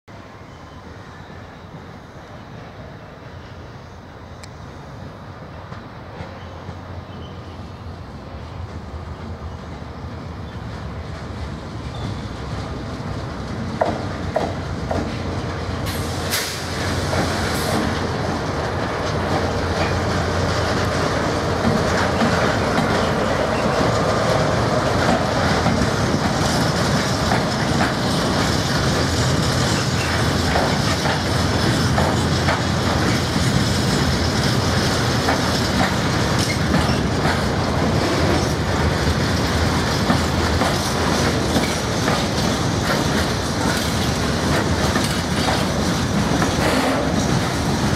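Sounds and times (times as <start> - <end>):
diesel locomotive passing: 0.1 - 47.9
freight train wheels clicking: 8.4 - 47.9.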